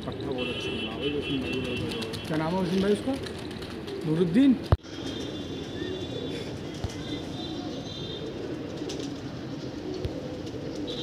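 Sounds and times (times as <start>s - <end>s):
pigeons cooing: 1.6s - 11.0s.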